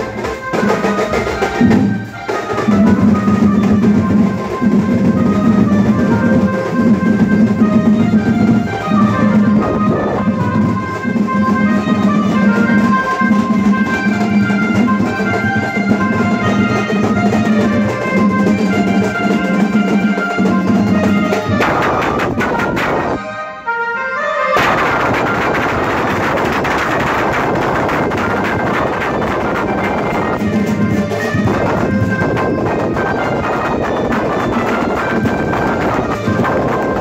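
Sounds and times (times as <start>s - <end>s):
large drums pounding: 0.0s - 23.2s, 24.6s - 37.0s
sustained melody: 0.0s - 37.0s.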